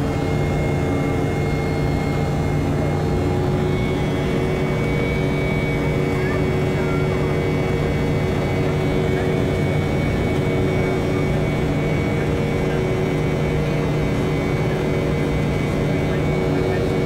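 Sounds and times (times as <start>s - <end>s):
airliner cabin roar: 0.0s - 17.0s.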